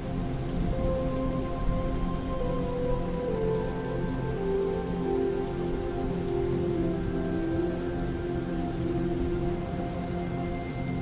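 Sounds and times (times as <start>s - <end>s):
soft music of held notes: 0.0s - 11.0s
steady rainfall: 0.0s - 11.0s.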